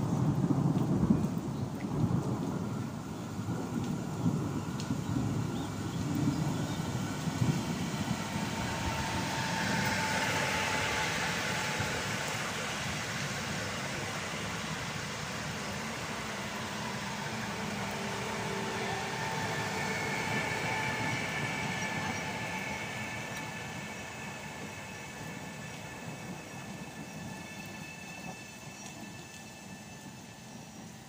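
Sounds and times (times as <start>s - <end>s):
train wheels rolling rumble: 0.0s - 31.0s
faint high whine: 4.2s - 31.0s.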